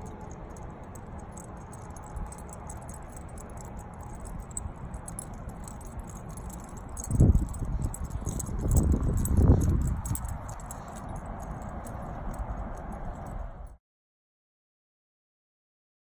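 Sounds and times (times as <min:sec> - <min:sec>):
dog collar tags jingling: 0:00.0 - 0:13.8.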